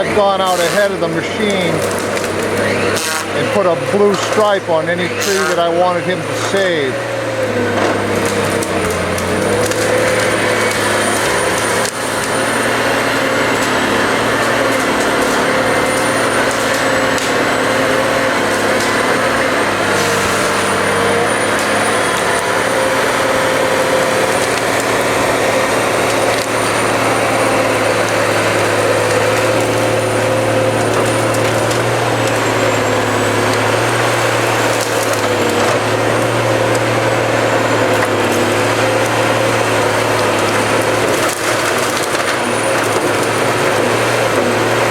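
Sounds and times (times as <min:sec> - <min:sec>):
harvester engine whining: 0:00.0 - 0:44.9
wood cracking and splintering: 0:00.0 - 0:44.9.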